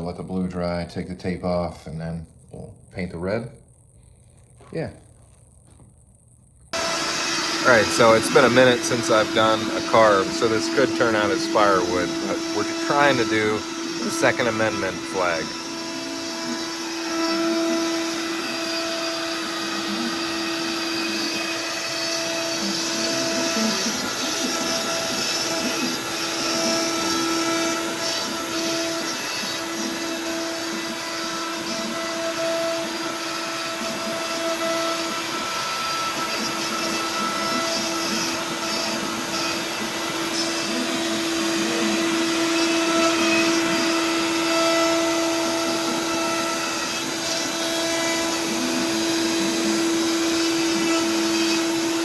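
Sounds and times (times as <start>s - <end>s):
router spindle whine: 6.7s - 52.0s.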